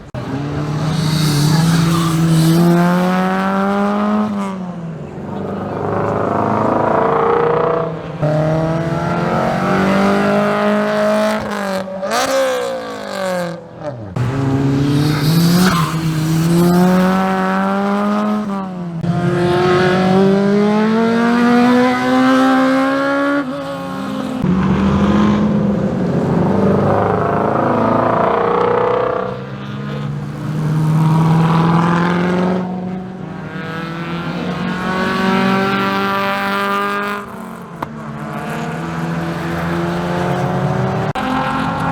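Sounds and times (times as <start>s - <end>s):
car engines accelerating hard: 0.0s - 41.9s.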